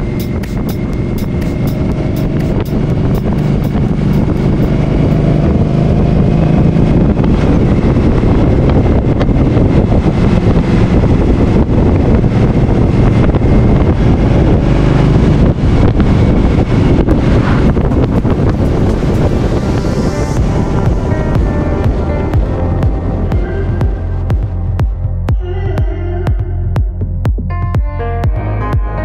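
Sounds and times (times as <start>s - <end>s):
motorcycle engine running: 0.0s - 28.9s
wind noise on microphone: 0.0s - 29.0s.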